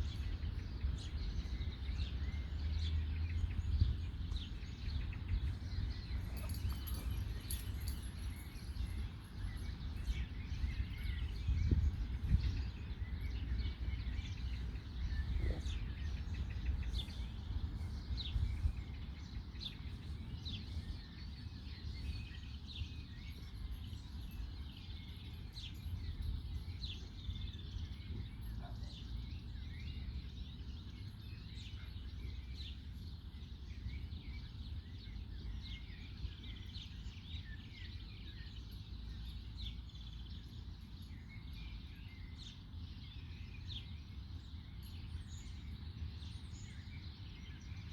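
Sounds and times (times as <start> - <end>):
songbirds chirping and singing: 0.0 - 47.9.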